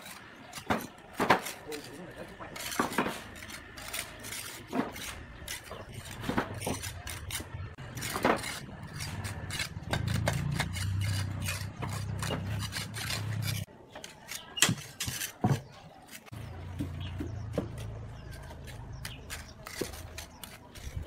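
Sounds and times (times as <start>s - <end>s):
trowel scraping and tapping mortar: 0.0s - 21.0s.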